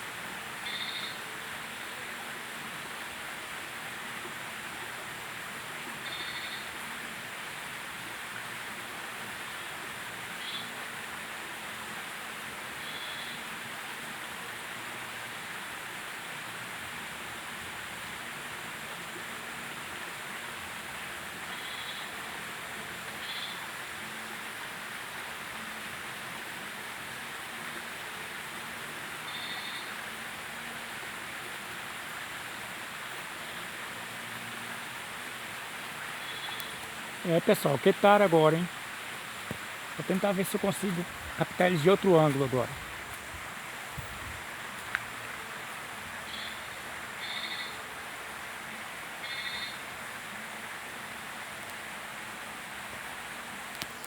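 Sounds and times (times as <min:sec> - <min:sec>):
water running in a creek: 0:00.0 - 0:54.0.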